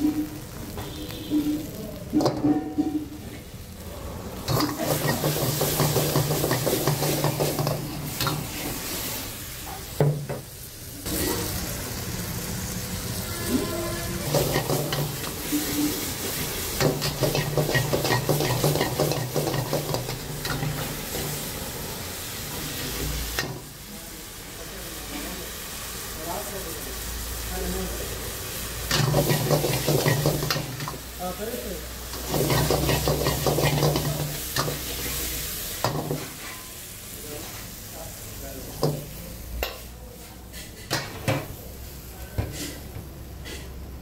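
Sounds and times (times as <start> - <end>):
food sizzling in a wok: 0.0 - 44.0.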